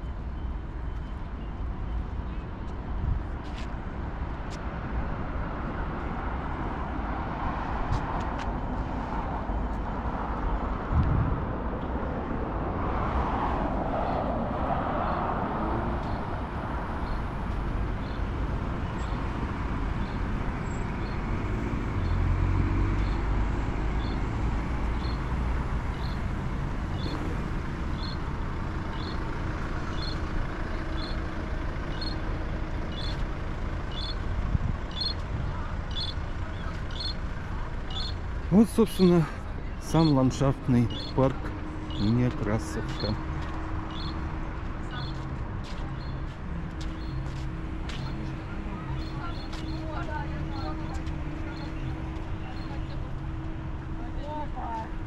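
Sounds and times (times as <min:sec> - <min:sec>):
road traffic rumble: 0:00.0 - 0:55.0
heavy vehicle rumbling past: 0:10.8 - 0:55.0.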